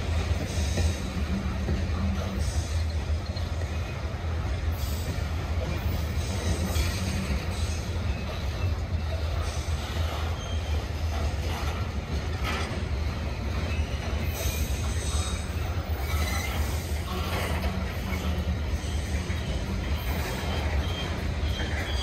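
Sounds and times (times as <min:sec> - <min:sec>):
train clunks: 0:00.0 - 0:22.0
train rumbling past: 0:00.0 - 0:22.0
wheel squeals: 0:00.2 - 0:22.0.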